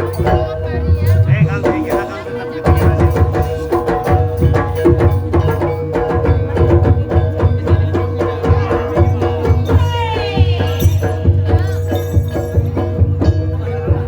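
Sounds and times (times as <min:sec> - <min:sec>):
hand drum strokes: 0:00.0 - 0:14.0
sustained metallic tones: 0:00.0 - 0:14.0.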